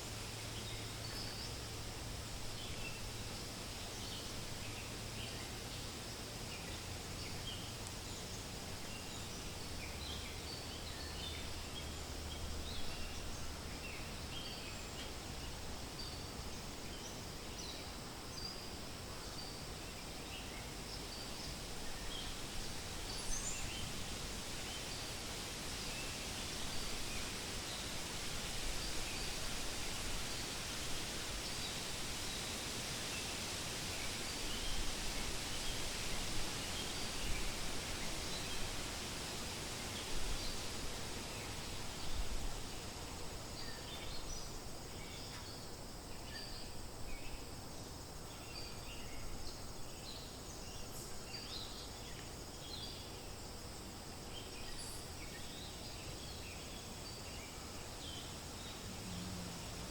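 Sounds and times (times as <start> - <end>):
wind rustling through leaves: 0.0 - 59.9.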